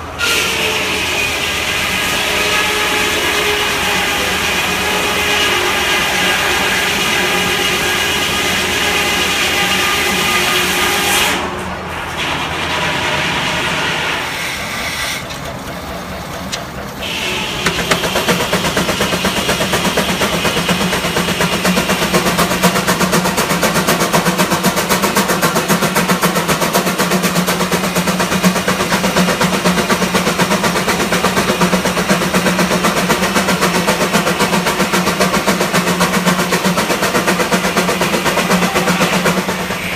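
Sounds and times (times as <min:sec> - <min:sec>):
steam engine exhaust chuffing: 0:00.0 - 0:11.5, 0:12.4 - 0:39.9
sawmill humming and ringing: 0:00.0 - 0:39.9.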